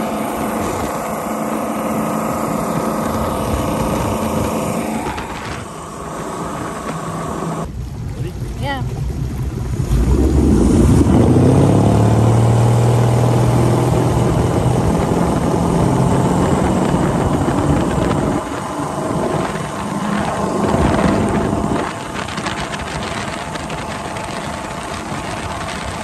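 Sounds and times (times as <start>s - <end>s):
boat engine running hard: 0.0s - 26.0s
rush of wake and wind: 0.0s - 26.0s.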